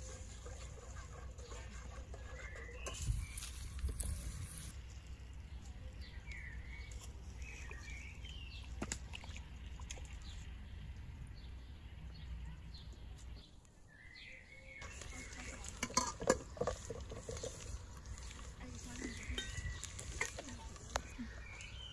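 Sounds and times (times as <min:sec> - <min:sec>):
birds chirping and singing: 0:00.0 - 0:08.8, 0:10.1 - 0:21.9.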